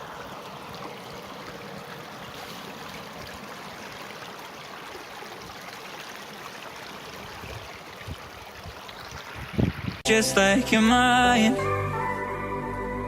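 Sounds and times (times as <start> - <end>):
stream water flowing: 0.0 - 10.9.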